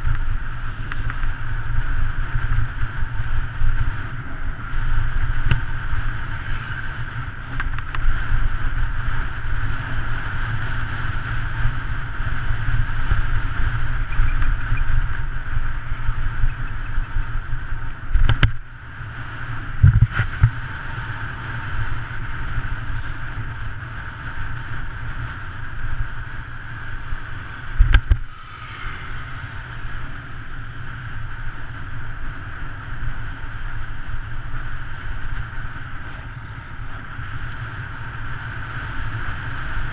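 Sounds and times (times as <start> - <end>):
tyres rumbling on asphalt: 0.0 - 39.9
wind rushing over microphone: 0.0 - 39.9.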